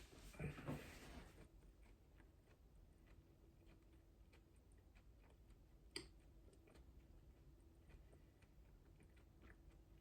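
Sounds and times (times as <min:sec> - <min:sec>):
faint steady hum: 0:00.0 - 0:10.0
faint chewing mouth clicks: 0:01.4 - 0:10.0.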